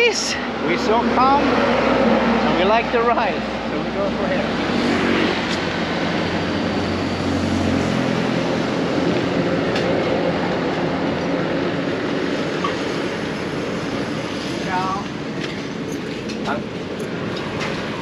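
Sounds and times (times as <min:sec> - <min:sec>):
passing vehicles rumble and hiss: 0:00.0 - 0:18.0.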